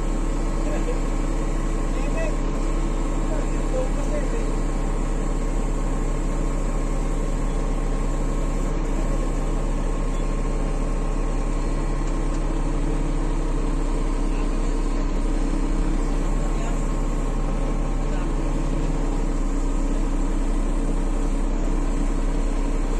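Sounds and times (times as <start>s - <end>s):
engine idling: 0.0s - 22.9s.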